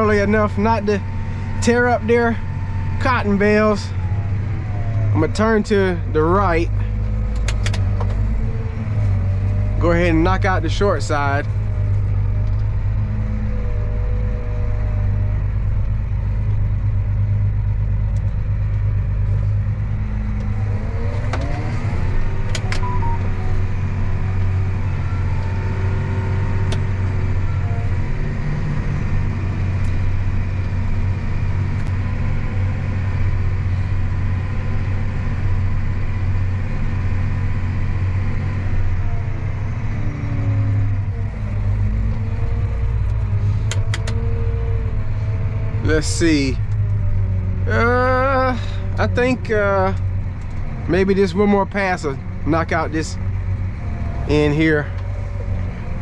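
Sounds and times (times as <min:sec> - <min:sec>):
tractor diesel engine droning: 0:00.0 - 0:56.0.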